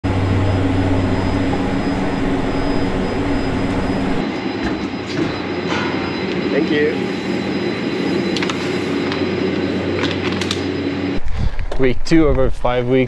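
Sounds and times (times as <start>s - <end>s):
lift machinery drone and hum: 0.0s - 11.8s.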